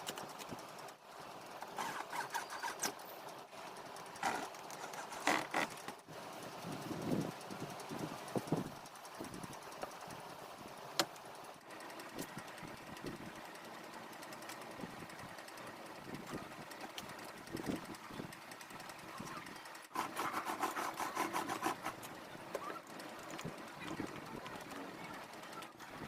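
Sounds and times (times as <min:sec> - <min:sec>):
low workshop noise: 0:00.0 - 0:26.0
small machine running rhythmically: 0:00.0 - 0:26.0.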